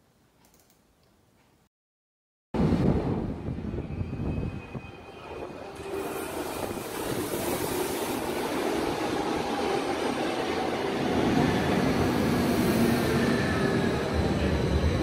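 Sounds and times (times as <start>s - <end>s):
underground train pulling in: 2.6s - 15.0s.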